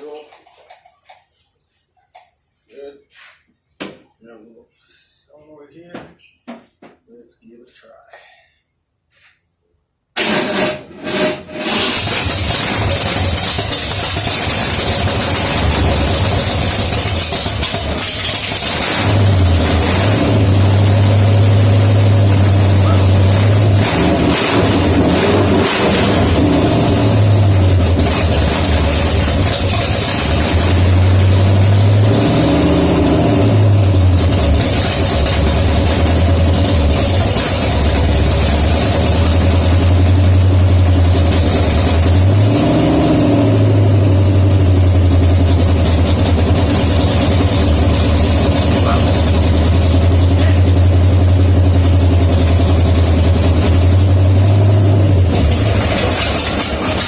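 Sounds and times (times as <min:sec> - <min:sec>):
engine running through open headers: 0:10.2 - 0:57.0.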